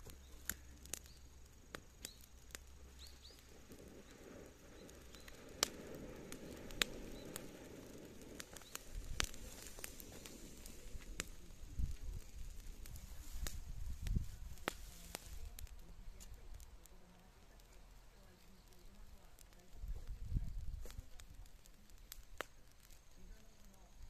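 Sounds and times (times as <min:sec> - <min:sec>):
fire crackling and popping: 0:00.0 - 0:24.0
fire rushing hiss: 0:00.0 - 0:24.0.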